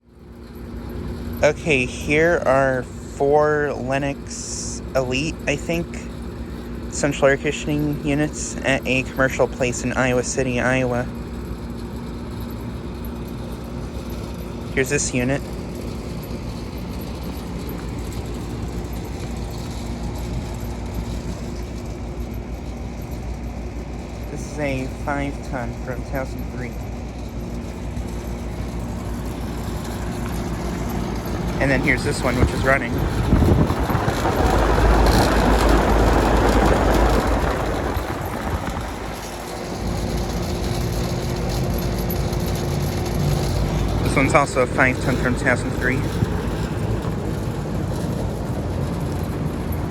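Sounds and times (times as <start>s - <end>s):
air conditioner hum and fan: 0.0s - 49.9s.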